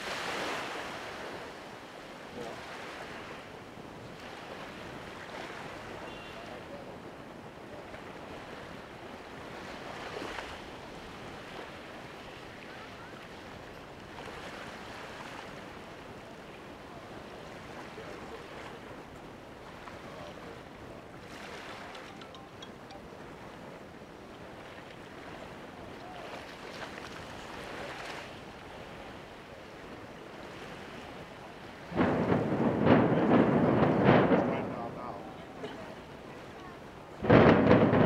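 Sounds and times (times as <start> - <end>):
small waves washing ashore: 0.0 - 38.0.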